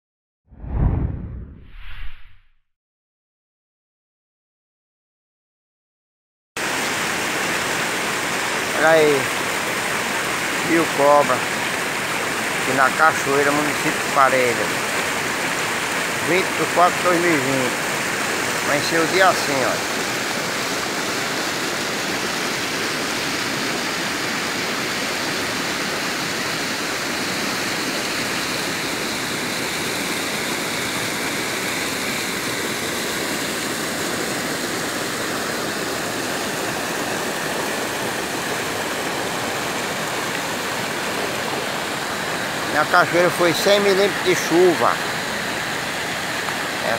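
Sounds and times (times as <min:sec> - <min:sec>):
water rushing over rocks: 0:06.6 - 0:46.9.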